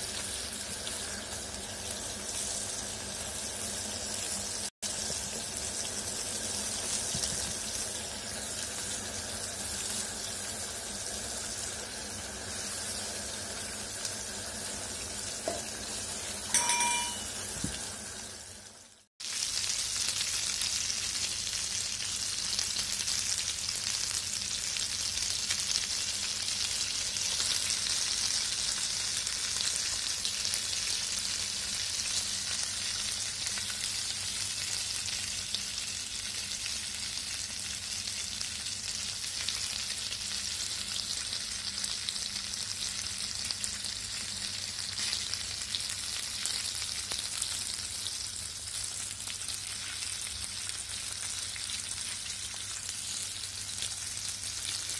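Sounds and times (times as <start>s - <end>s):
oil sizzling and crackling: 0.0s - 54.9s.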